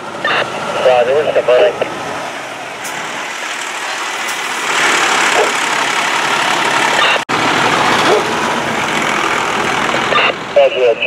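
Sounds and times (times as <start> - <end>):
fire truck diesel engine running: 0.0 - 11.0.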